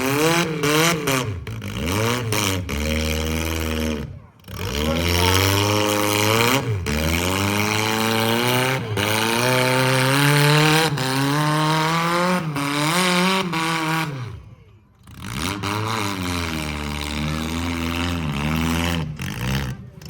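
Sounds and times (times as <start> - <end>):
vehicle engine accelerating hard: 0.0 - 20.0.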